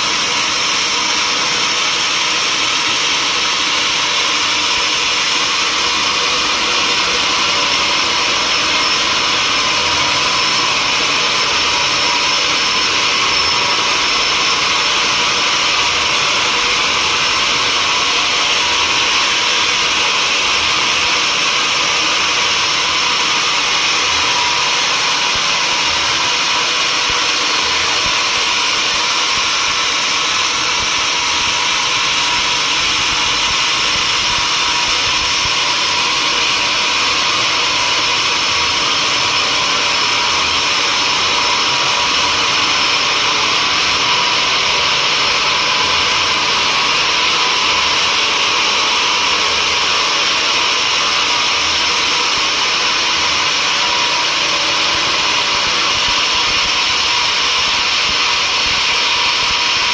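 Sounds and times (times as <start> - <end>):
saw cutting wood: 0.0 - 59.9.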